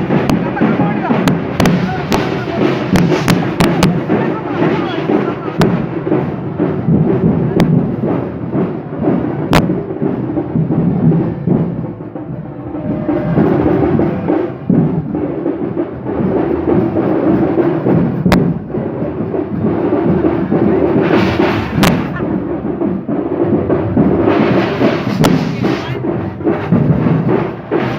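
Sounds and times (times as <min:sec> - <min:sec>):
percussion band drums playing: 0:00.0 - 0:27.9.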